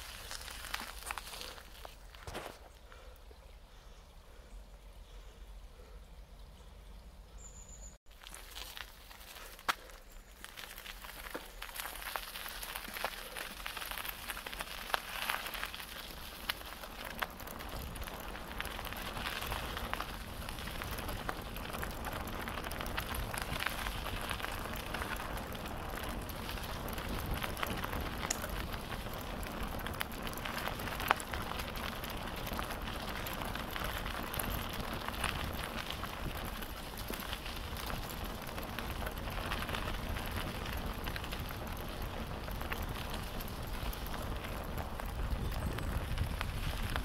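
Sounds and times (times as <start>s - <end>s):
bicycle tyres rolling on gravel: 0.0s - 3.1s, 6.9s - 47.0s.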